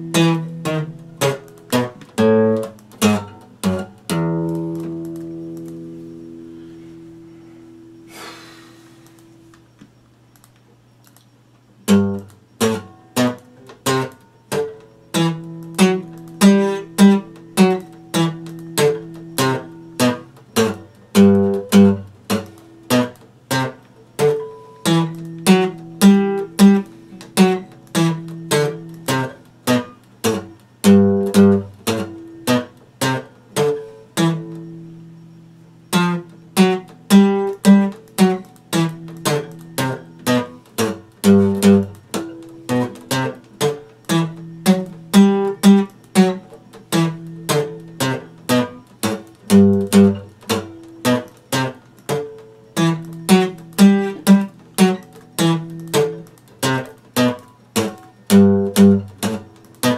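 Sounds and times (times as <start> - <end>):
acoustic guitar chords strummed: 0.0 - 9.8, 11.8 - 59.9.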